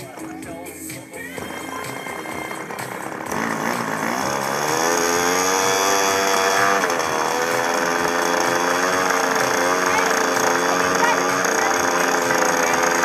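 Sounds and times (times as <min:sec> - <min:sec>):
small engine revving: 0:01.2 - 0:13.0.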